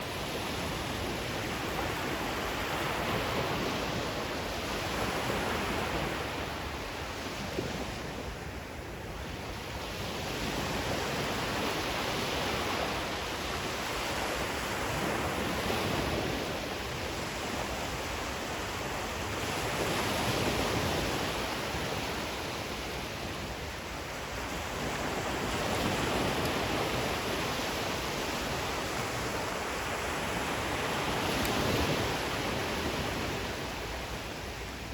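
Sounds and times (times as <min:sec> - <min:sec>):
ocean waves washing on shore: 0:00.0 - 0:34.9.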